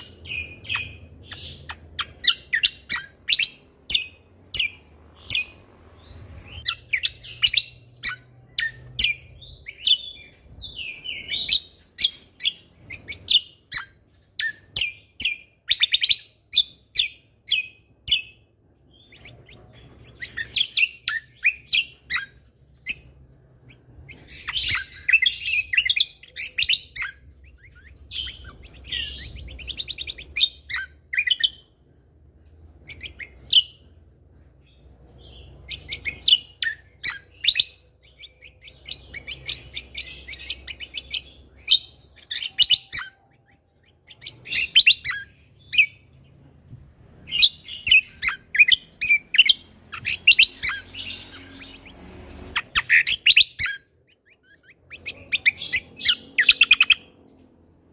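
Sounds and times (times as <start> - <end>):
bird singing chirps and whistles: 0.0 - 31.8, 32.8 - 33.9, 34.6 - 46.1, 47.2 - 57.4.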